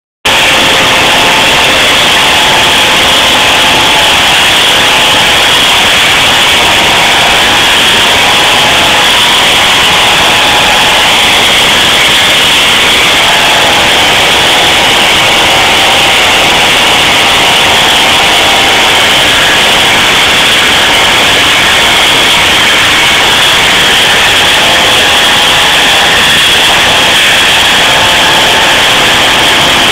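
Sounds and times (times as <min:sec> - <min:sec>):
chainsaw cutting wood: 0:00.2 - 0:29.9.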